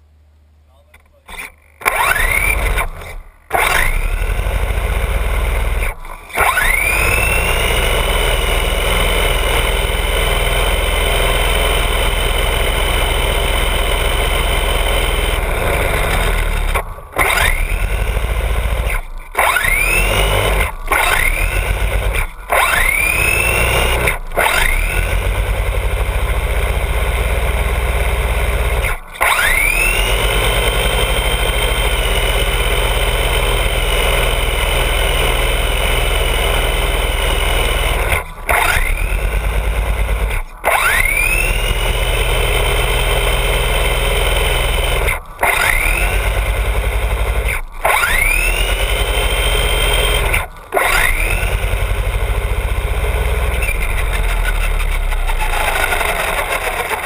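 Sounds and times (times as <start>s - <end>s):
electric motor whining: 1.3s - 57.0s.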